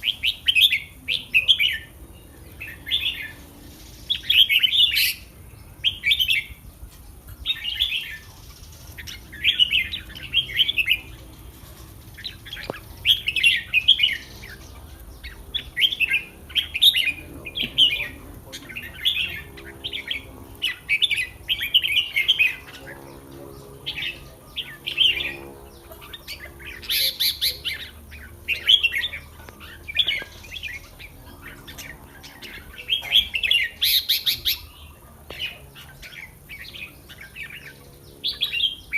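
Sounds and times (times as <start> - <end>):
bird singing bright phrases: 0.0 - 38.9.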